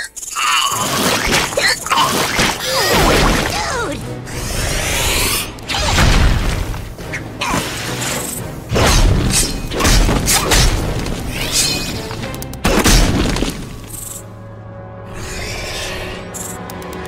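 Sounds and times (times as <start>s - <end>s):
action music: 2.4s - 17.0s.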